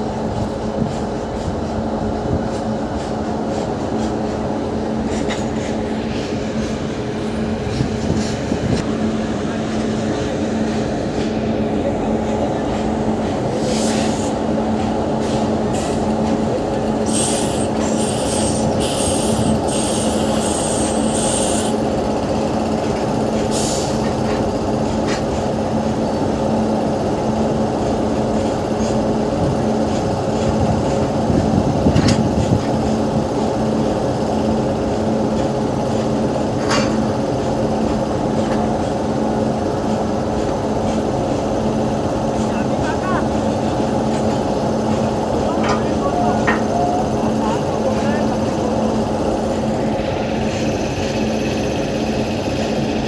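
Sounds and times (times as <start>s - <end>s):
locomotive machinery humming: 0.0s - 53.0s.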